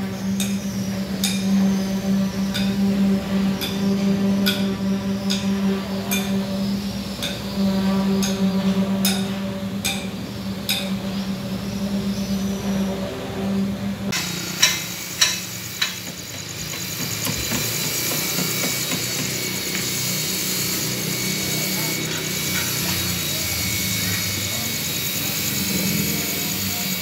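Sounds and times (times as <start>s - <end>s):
concrete pump engine hum: 0.0s - 27.0s
pulsing high whine: 0.0s - 27.0s.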